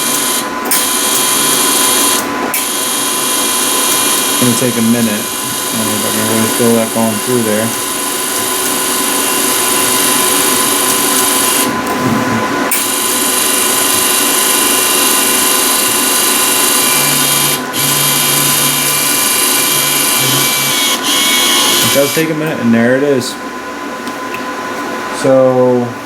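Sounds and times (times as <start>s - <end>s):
wire feed motor whirring: 0.0s - 12.0s, 12.7s - 22.4s.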